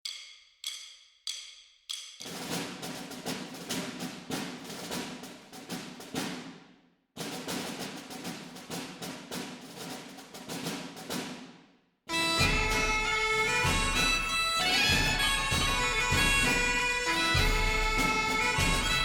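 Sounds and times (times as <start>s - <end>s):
rapid drum percussion music: 0.0s - 19.0s.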